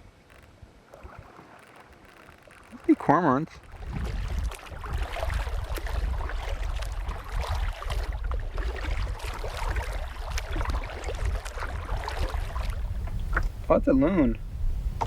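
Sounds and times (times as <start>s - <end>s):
paddle water splashing: 0.0s - 13.7s.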